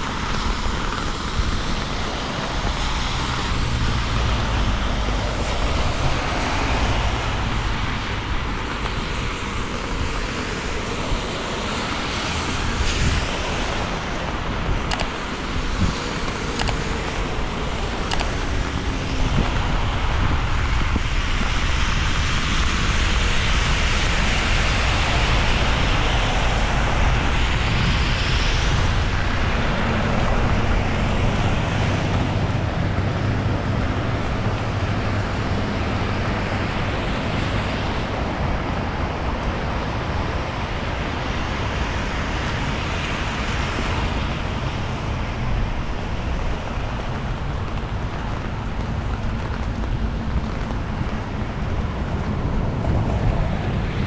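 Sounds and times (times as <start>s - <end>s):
cars passing on wet road: 0.0s - 54.0s.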